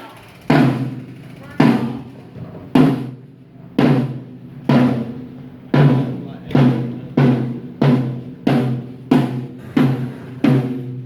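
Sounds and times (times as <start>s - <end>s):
drum hits ringing low: 0.5s - 11.0s.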